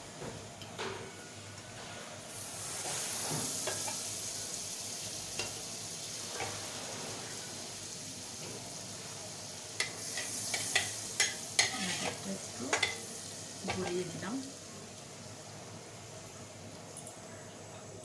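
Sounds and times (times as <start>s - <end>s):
butter sizzling in a hot pan: 2.2s - 16.7s.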